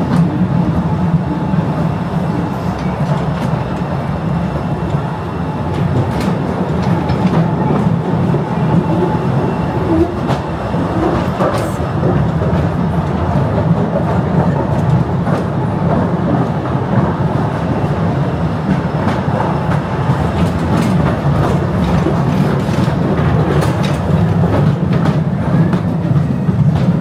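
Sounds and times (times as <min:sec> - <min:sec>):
train carriages rumbling: 0:00.0 - 0:27.0.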